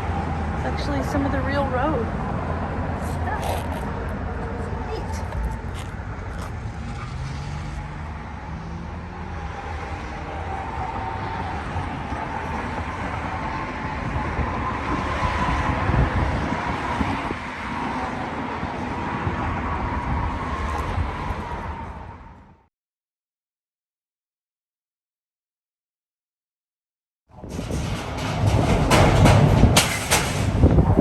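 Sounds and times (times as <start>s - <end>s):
tyre and engine rumble: 0.0s - 22.4s, 27.3s - 31.0s.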